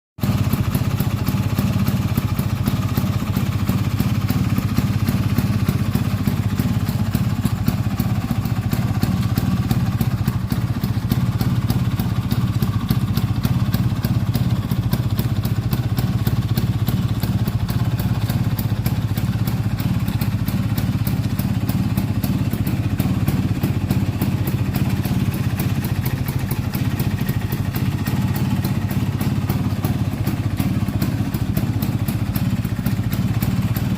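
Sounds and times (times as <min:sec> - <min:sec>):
scooter two-stroke engine running: 0:00.2 - 0:33.9.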